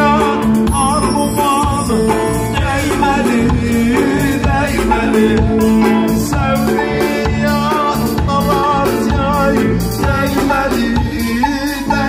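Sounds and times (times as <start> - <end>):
folk dance music: 0.0 - 12.0
person singing: 0.0 - 12.0.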